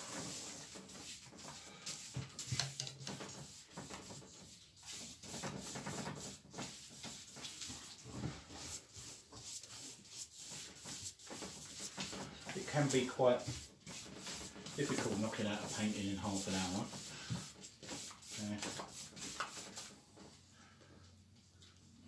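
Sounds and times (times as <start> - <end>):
hand smearing wet paint on paper: 0.0 - 20.4.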